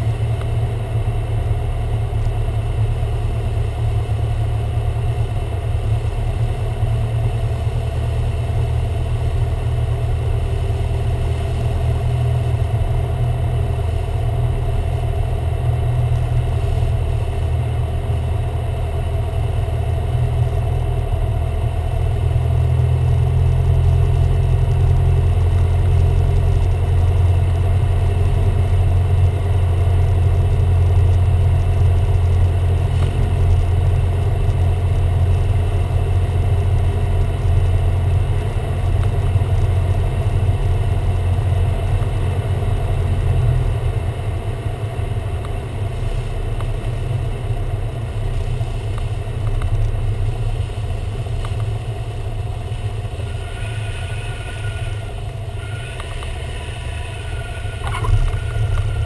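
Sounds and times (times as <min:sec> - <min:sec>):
aircraft engine and propeller drone: 0:00.0 - 0:59.0.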